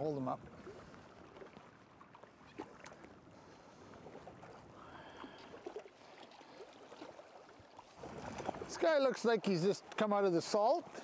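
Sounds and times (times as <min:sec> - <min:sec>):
water lapping at rocky shore: 0:00.0 - 0:11.0.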